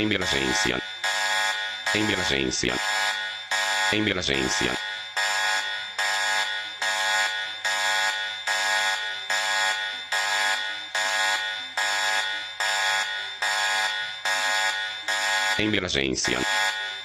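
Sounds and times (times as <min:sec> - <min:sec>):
electronic alarm buzzing: 0:00.0 - 0:17.0.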